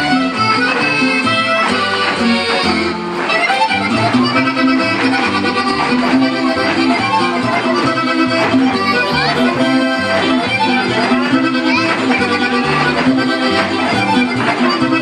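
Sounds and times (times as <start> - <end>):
accordion dance music: 0.0 - 15.0.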